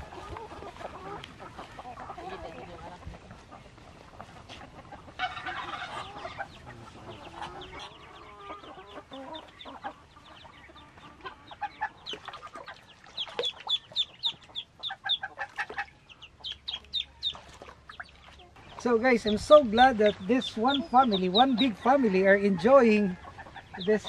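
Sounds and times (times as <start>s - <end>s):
ducklings peeping: 0.0s - 24.0s
farm fowl calling: 0.0s - 24.0s.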